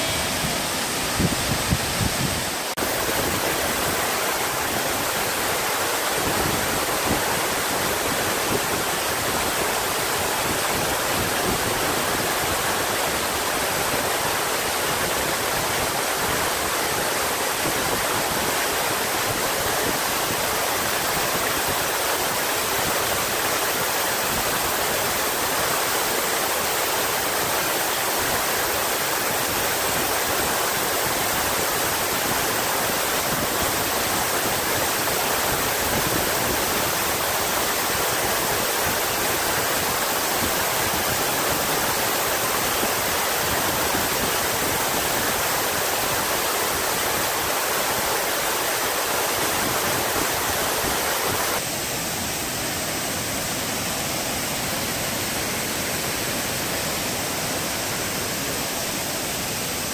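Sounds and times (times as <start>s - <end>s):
rushing water of waterfall: 0.0s - 59.9s.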